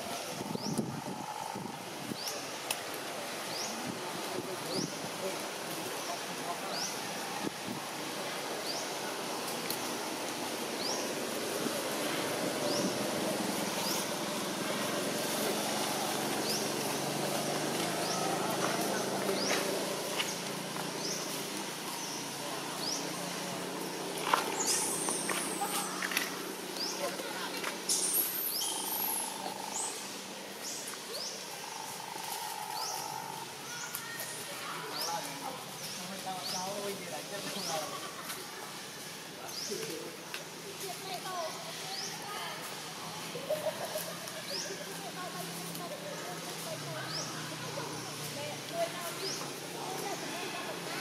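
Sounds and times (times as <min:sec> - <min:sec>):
steady outdoor hiss: 0:00.0 - 0:51.0.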